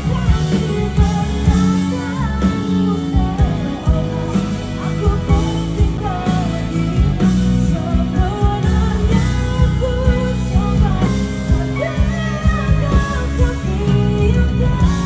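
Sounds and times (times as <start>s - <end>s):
backing music with drum beat: 0.0s - 15.0s
woman singing into microphone: 0.0s - 15.0s.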